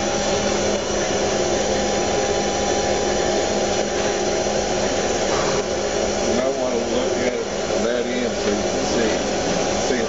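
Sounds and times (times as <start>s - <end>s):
lathe whirring and humming: 0.0s - 10.0s.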